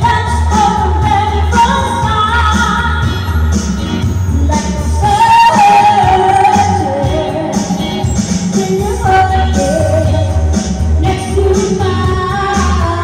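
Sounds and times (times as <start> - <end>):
amplified band music with bass beat: 0.0 - 13.0
person singing pop song: 0.0 - 13.0.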